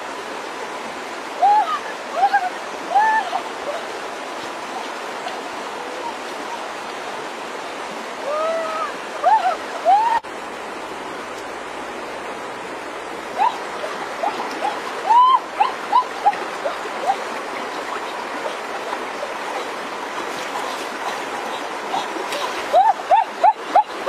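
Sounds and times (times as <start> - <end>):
river flowing: 0.0 - 24.0.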